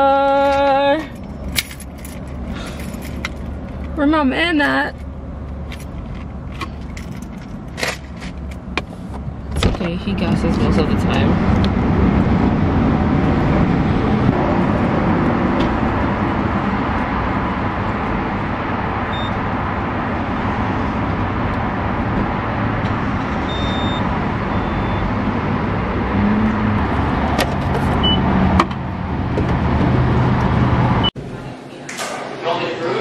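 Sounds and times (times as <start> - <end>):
car road and engine noise: 0.0 - 31.7.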